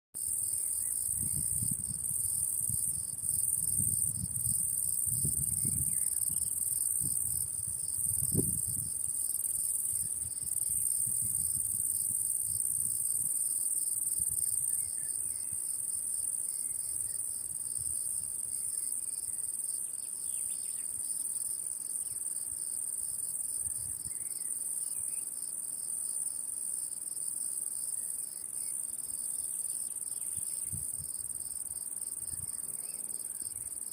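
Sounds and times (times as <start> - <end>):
crickets trilling: 0.2 - 33.9.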